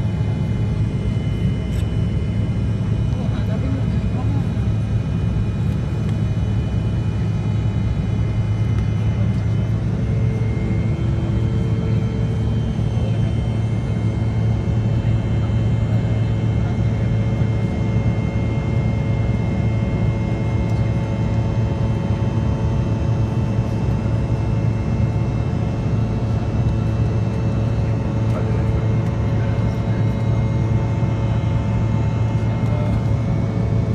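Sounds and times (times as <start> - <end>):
airliner cabin engine drone: 0.0 - 33.9.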